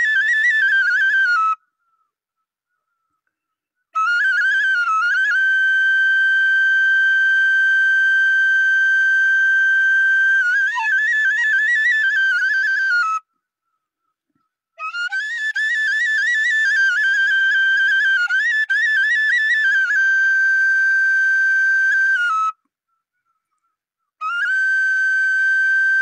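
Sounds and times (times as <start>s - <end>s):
bamboo flute playing: 0.0s - 3.2s, 3.8s - 14.1s, 14.8s - 26.0s.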